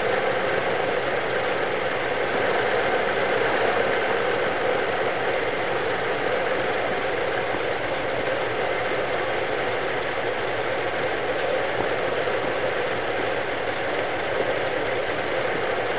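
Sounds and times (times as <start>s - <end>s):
pickup engine idling erratically: 0.0s - 15.9s.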